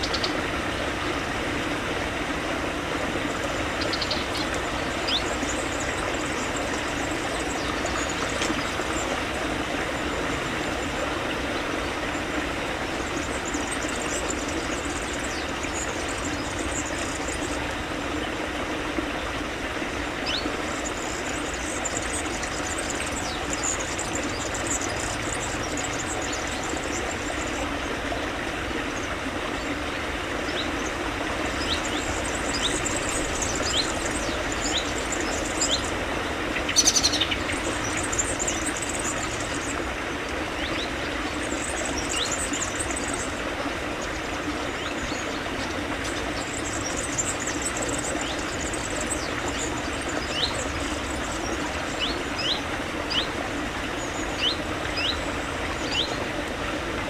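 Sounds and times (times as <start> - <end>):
mountain stream flowing: 0.0 - 57.0
small birds twittering: 0.0 - 57.0.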